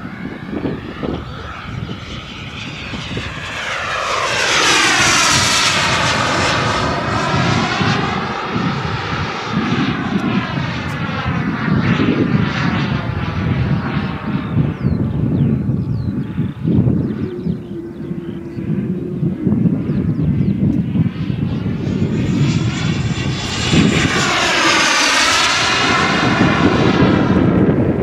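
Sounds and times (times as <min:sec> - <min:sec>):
model jet turbine passing overhead: 0:00.0 - 0:28.0.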